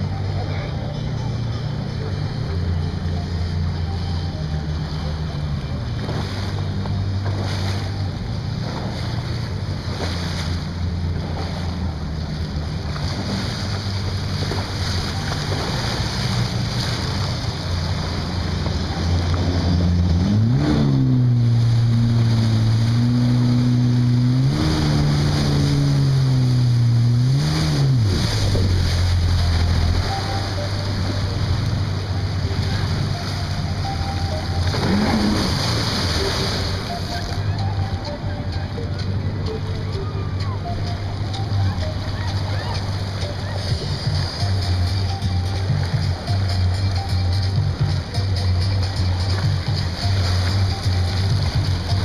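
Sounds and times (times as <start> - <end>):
watercraft engine running: 0.0 - 52.0.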